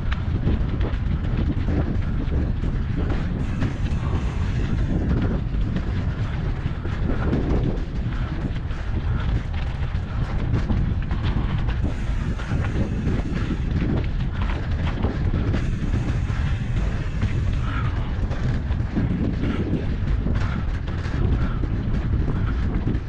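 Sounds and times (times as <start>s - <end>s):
bike clicking and rattling: 0.0s - 23.0s
tyres rumbling on trail: 0.0s - 23.0s
wind on microphone: 0.0s - 23.0s.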